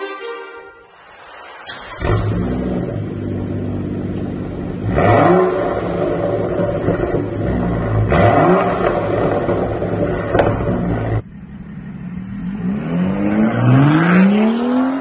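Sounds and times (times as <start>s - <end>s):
car engine revving: 1.0s - 15.0s
exhaust crack: 1.1s - 13.3s
car accelerating away: 1.3s - 15.0s.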